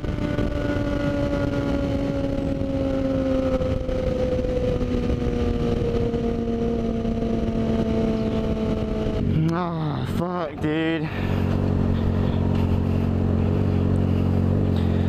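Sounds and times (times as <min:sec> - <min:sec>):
constant rushing noise: 0:00.0 - 0:15.0
motorcycle engine slowing: 0:00.0 - 0:15.0.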